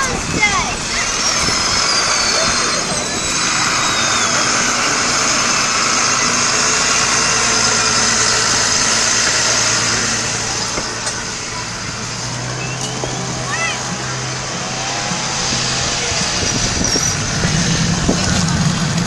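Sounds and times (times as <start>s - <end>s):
road traffic engines: 0.0s - 19.0s.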